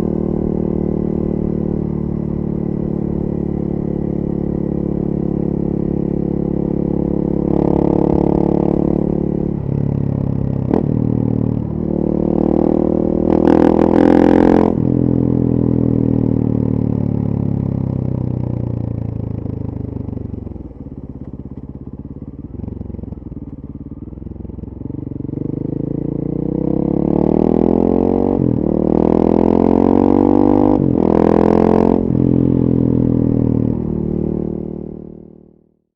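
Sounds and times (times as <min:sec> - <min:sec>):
motorcycle engine accelerating: 0:00.0 - 0:35.8.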